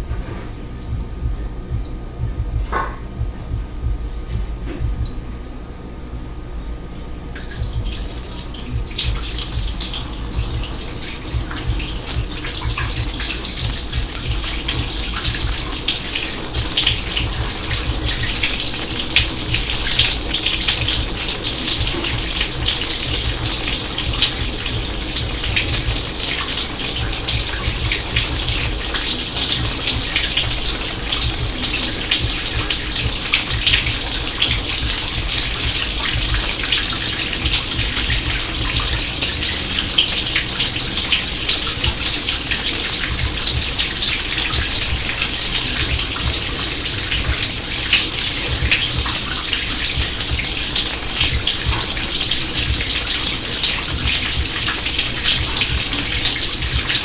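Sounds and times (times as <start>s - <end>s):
tap water running into sink: 7.3s - 57.0s.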